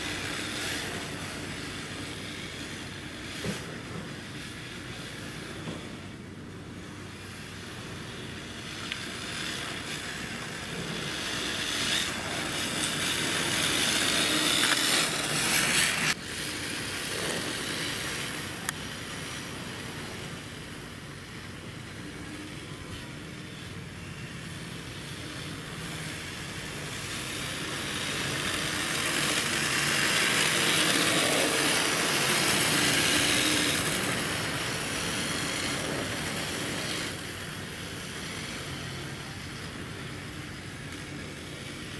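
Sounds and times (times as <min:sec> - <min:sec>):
tyres scrubbing on asphalt: 0:00.0 - 0:21.8, 0:24.8 - 0:41.9.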